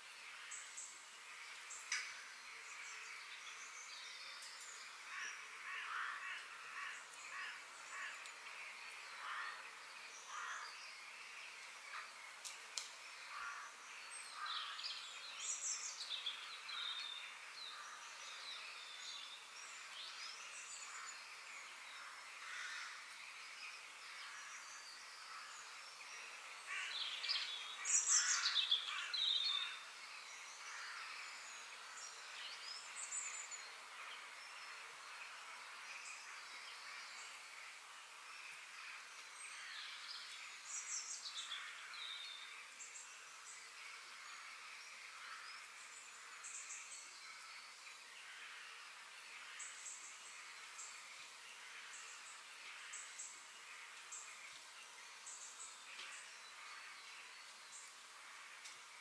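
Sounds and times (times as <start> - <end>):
background hiss: 0.0 - 59.0
forest birds singing: 0.0 - 59.0.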